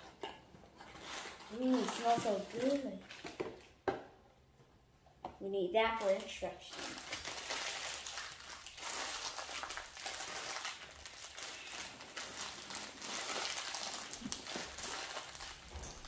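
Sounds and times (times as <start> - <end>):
plastic bag crinkling: 1.0 - 3.7, 5.8 - 16.0.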